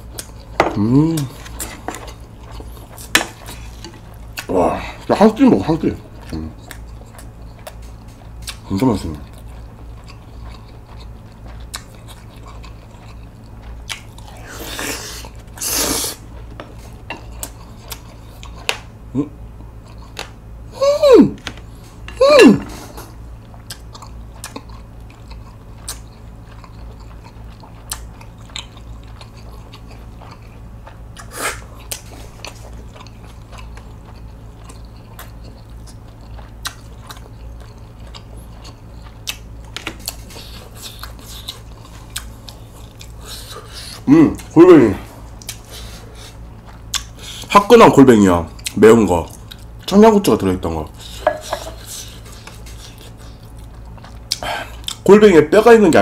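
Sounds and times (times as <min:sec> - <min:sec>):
close chewing with wet smacks: 0:00.0 - 0:00.6, 0:01.2 - 0:04.5, 0:05.1 - 0:14.4, 0:16.2 - 0:18.9, 0:23.4 - 0:44.6, 0:45.2 - 0:47.5, 0:48.5 - 0:50.0, 0:50.9 - 0:55.1.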